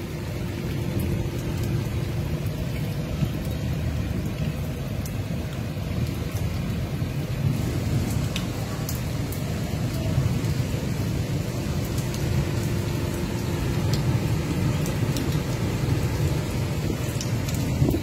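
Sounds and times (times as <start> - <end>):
heavy rain: 0.0 - 18.0
rain drops ticking: 0.0 - 18.0.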